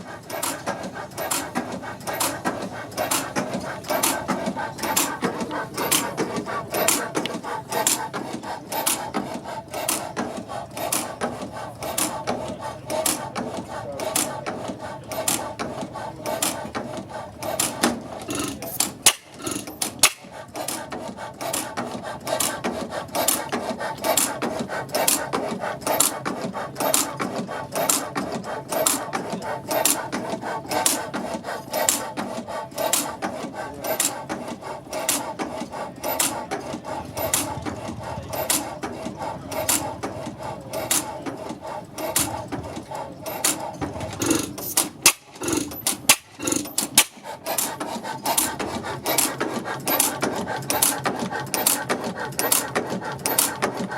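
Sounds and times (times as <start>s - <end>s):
old gas engine running: 0.0s - 53.9s
sharp mechanical clicks: 0.3s - 53.9s.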